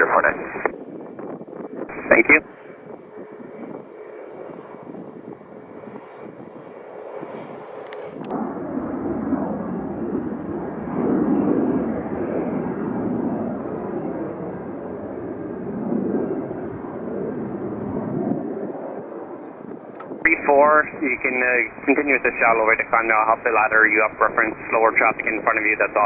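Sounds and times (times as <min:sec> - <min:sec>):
airliner engines passing: 0:00.0 - 0:26.0.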